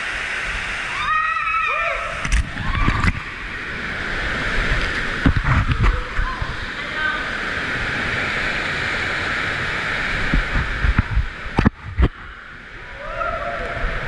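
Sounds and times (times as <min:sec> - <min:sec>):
water rushing in a slide tube: 0:00.0 - 0:14.0.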